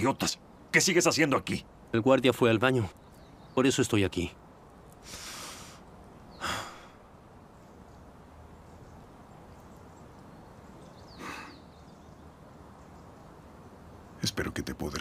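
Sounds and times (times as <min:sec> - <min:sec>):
faint low steady hum: 0:00.0 - 0:15.0.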